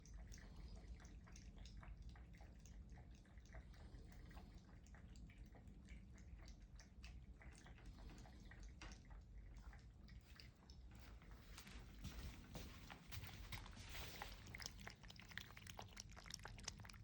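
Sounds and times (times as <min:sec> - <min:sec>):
cat chewing and licking: 0:00.0 - 0:17.0.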